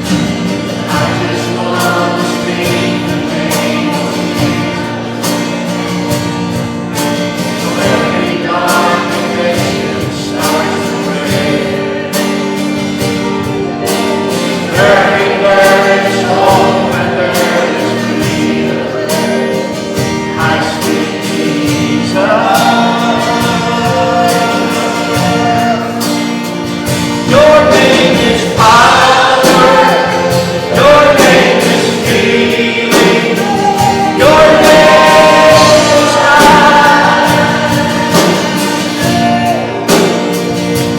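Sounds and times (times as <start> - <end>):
group singing a hymn: 0.0 - 40.9
strummed instrumental backing: 0.0 - 40.9.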